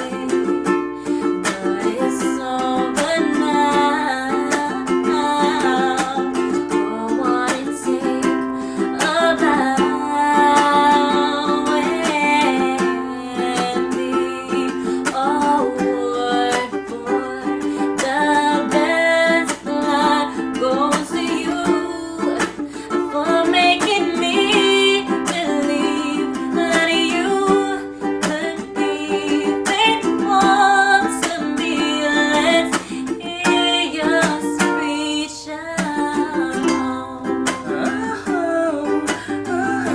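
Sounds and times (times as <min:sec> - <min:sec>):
ukulele strumming: 0:00.0 - 0:39.9.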